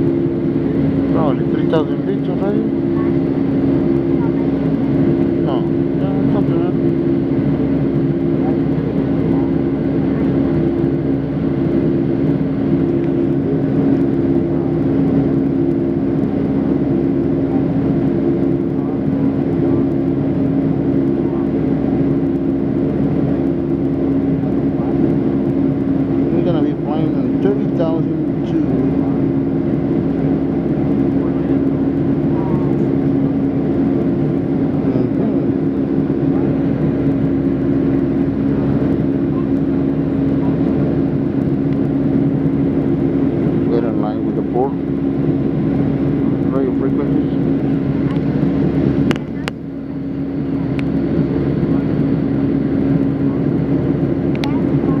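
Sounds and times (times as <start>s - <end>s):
jet airliner cabin drone: 0.0s - 55.0s.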